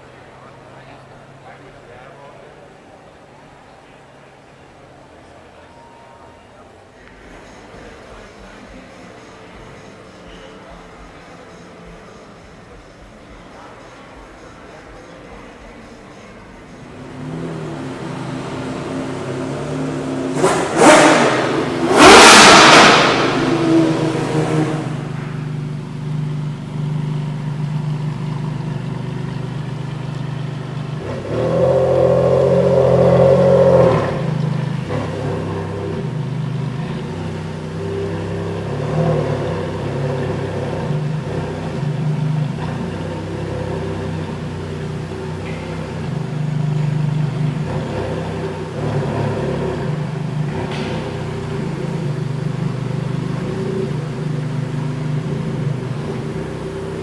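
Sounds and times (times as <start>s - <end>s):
car engine idling and revving: 0.0s - 5.7s, 7.0s - 57.0s.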